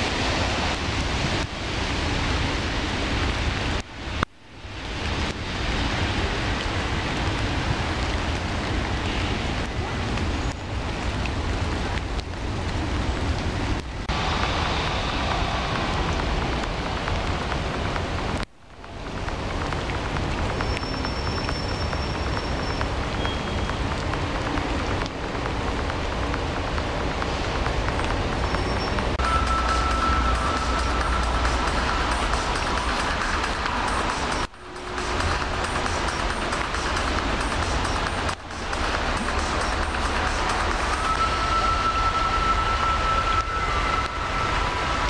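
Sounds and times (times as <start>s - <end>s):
rain falling on river: 0.0s - 45.0s
river rumble: 0.0s - 45.0s.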